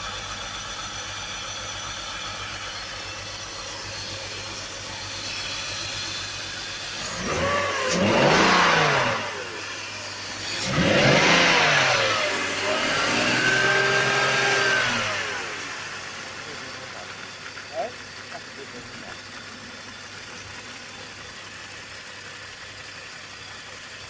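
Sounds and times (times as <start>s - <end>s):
car engine idling: 0.0s - 24.0s
car engine revving: 2.2s - 22.9s.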